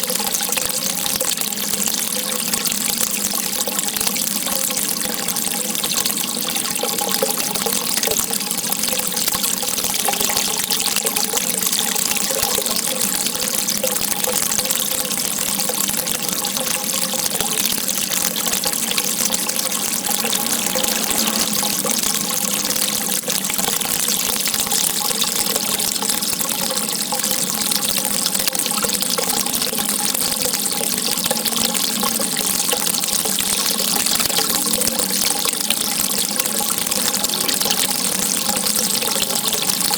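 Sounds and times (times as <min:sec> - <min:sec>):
water gushing: 0:00.0 - 0:39.9.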